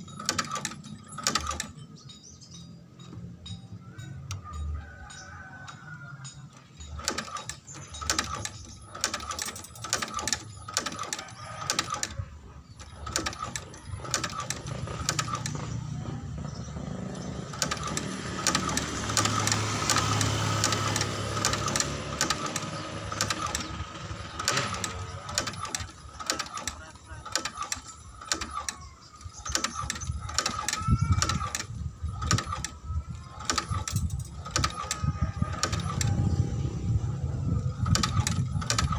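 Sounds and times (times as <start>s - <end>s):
stitching machine clattering: 0.0s - 36.4s, 37.3s - 38.9s.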